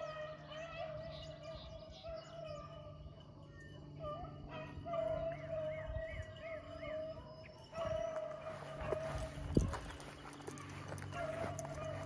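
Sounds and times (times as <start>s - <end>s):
beagles baying: 0.0s - 12.0s.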